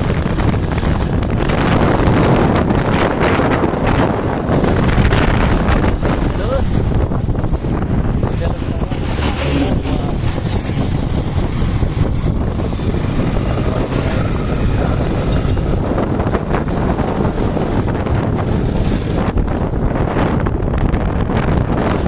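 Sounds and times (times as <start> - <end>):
moving vehicle rumble: 0.0 - 22.0
wind buffeting microphone: 0.0 - 22.0.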